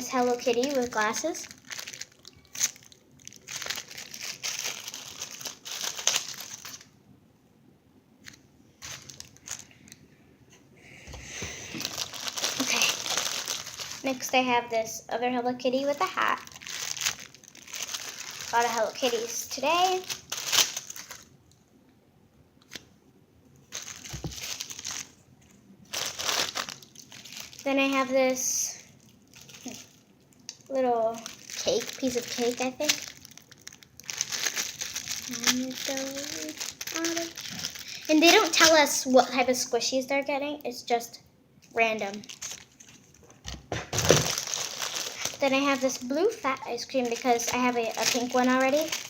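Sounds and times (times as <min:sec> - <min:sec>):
plastic wrapping crinkling: 0:00.0 - 0:06.9, 0:08.2 - 0:10.1, 0:11.5 - 0:14.8, 0:15.6 - 0:21.4, 0:23.6 - 0:39.7, 0:41.7 - 0:49.0.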